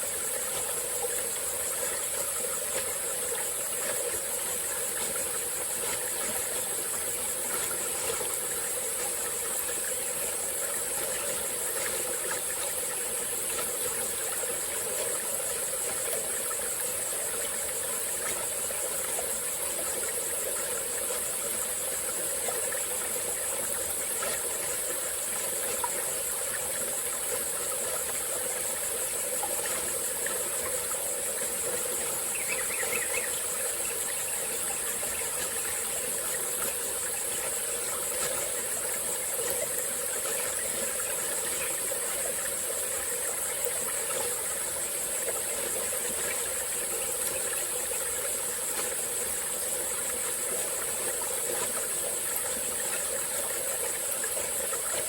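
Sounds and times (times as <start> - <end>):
insects droning: 0.0 - 55.0
stream flowing: 0.0 - 55.0.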